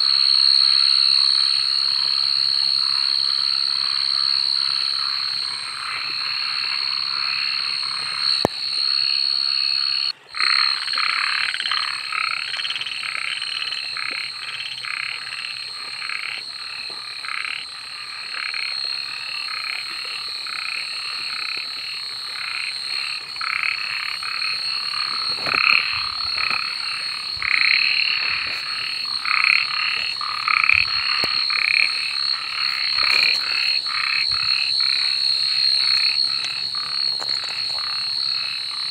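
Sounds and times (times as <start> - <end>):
frogs croaking chorus: 0.0 - 38.9.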